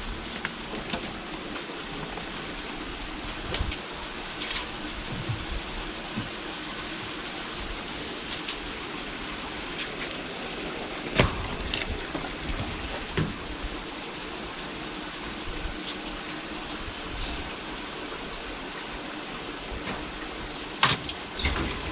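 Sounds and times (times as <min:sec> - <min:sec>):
steady rushing background noise: 0:00.0 - 0:21.9.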